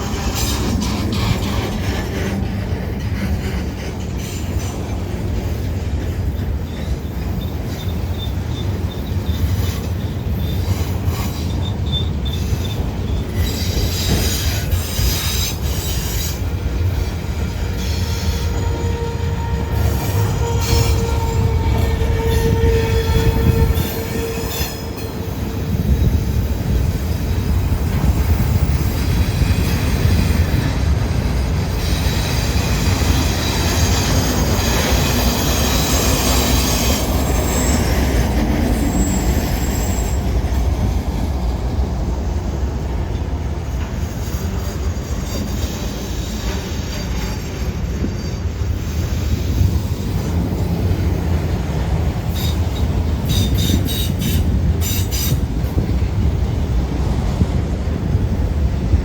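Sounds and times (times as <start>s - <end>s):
freight train rumbling past: 0.0s - 59.0s
train wheels squealing on rails: 0.0s - 59.0s.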